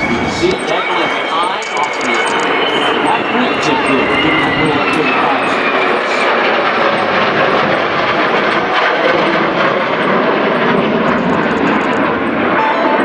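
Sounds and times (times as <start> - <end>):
military jets flying past: 0.0 - 13.0.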